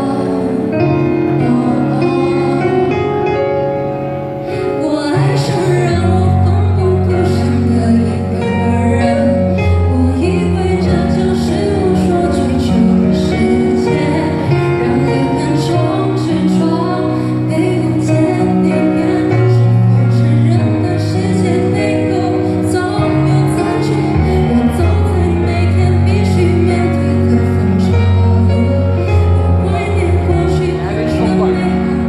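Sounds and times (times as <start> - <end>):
woman singing pop ballad: 0.0 - 3.6, 4.4 - 32.0
instrumental accompaniment with bass: 0.0 - 32.0.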